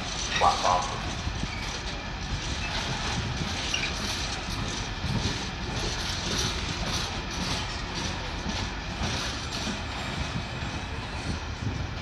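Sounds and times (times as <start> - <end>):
train wheels running on rails: 0.0 - 12.0
wheels clattering over rail joints: 0.0 - 12.0.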